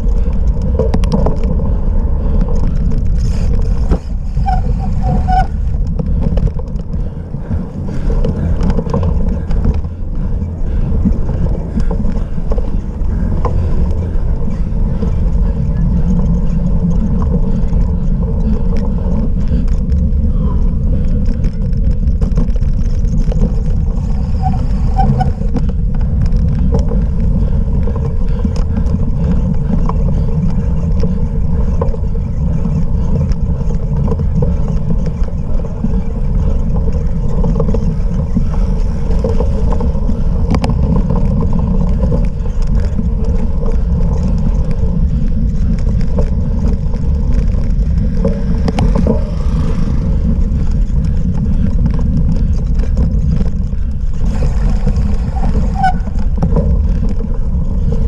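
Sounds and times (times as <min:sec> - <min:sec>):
bike clicks and rattles: 0:00.0 - 0:58.0
wind rumble on microphone: 0:00.0 - 0:58.0.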